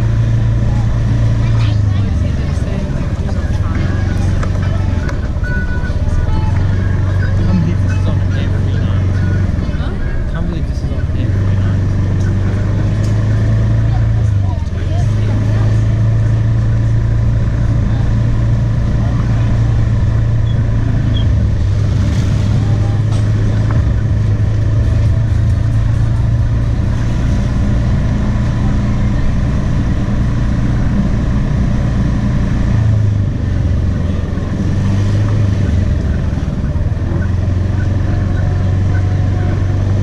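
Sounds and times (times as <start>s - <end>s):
motorbike engine droning: 0.0s - 40.0s.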